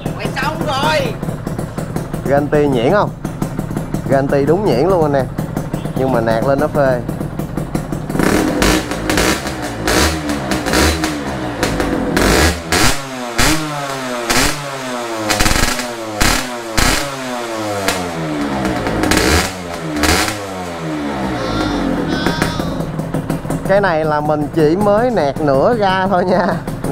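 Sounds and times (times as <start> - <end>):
motorcycle engine revving: 0.0 - 26.9
sharp exhaust cracks: 0.0 - 26.9.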